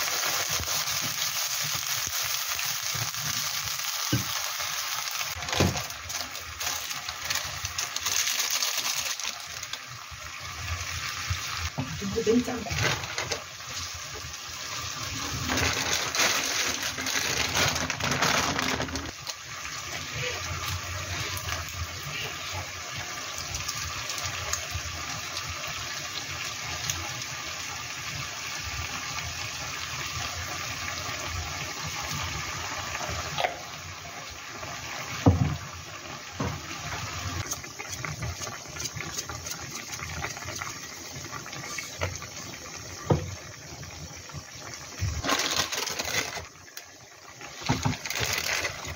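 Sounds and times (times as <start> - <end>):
sauce bubbling in a wok: 0.0 - 15.9, 16.6 - 48.9.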